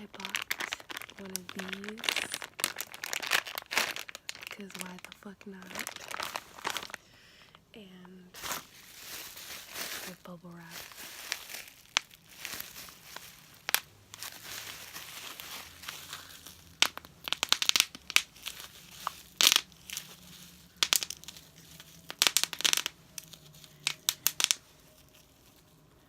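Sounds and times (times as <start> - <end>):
bubble wrap crinkling and popping: 0.0 - 7.6, 8.3 - 25.9.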